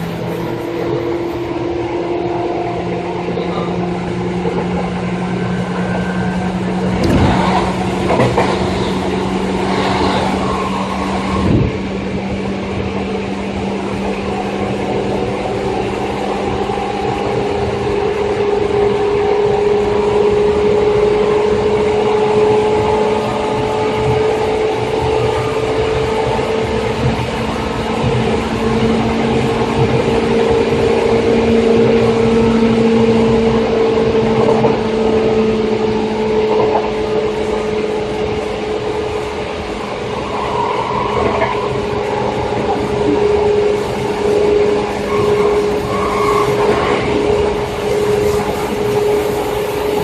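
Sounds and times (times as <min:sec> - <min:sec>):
electric train motor whine: 0:00.0 - 0:50.0
wheels clacking over rail joints: 0:02.8 - 0:50.0.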